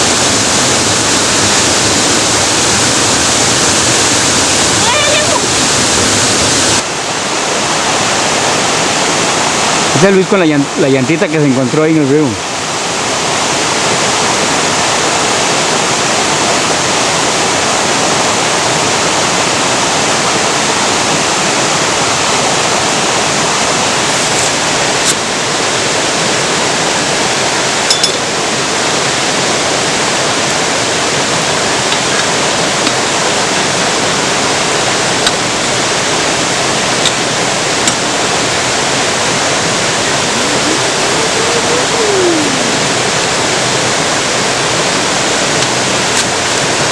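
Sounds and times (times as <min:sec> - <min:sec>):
rushing river water: 0:00.0 - 0:46.9.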